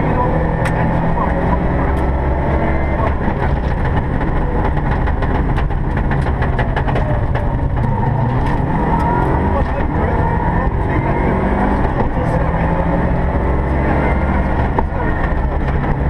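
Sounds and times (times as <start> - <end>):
car engine running hard: 0.0 - 16.0
road and drivetrain noise: 0.0 - 16.0.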